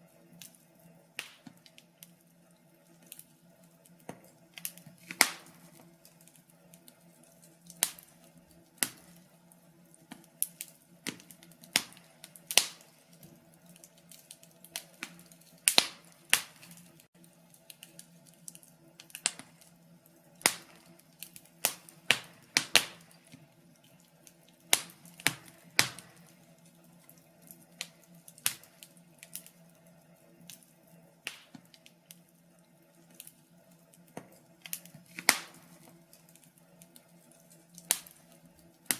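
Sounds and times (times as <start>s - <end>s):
faint steady hum: 0.0s - 38.9s
wood fire crackling and popping: 0.0s - 38.9s.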